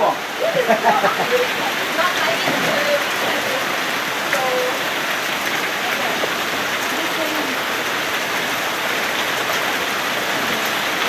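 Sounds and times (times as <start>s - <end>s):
falling water rushing: 0.0s - 11.0s.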